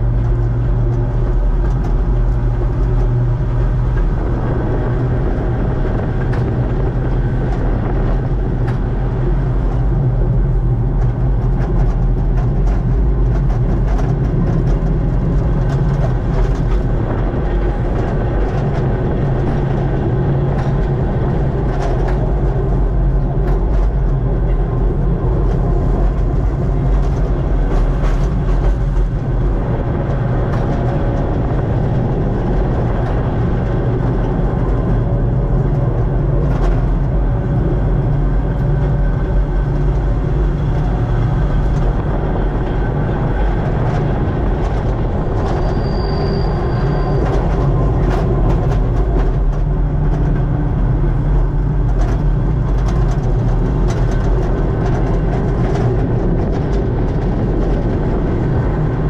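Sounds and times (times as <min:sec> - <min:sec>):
train motors and wheels rumbling: 0:00.0 - 0:59.0
wheels clicking on rails: 0:00.0 - 0:59.0.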